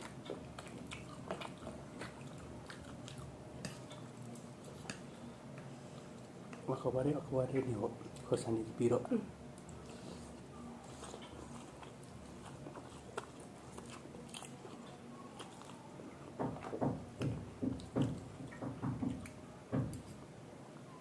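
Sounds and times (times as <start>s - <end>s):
person chewing food: 0.0s - 6.7s, 9.6s - 20.2s.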